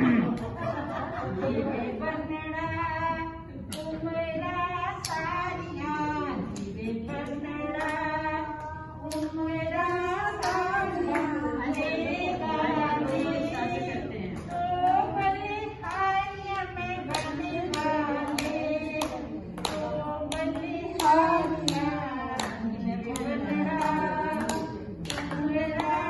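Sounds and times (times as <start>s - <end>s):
woman singing unaccompanied: 1.4s - 26.0s.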